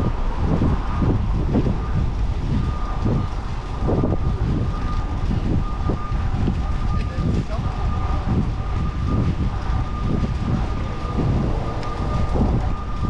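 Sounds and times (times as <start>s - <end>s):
street traffic rumble: 0.0s - 13.0s
wind buffeting microphone: 0.0s - 13.0s.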